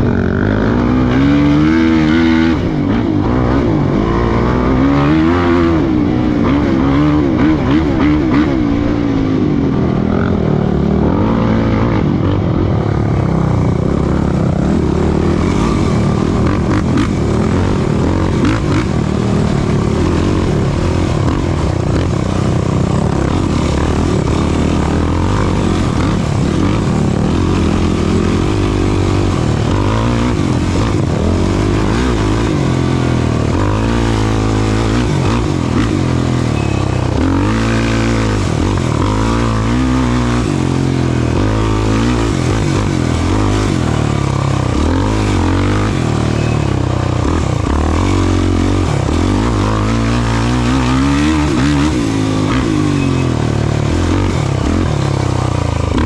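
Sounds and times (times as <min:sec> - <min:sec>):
atv engine revving: 0:00.0 - 0:56.0
rushing noise: 0:00.0 - 0:56.0.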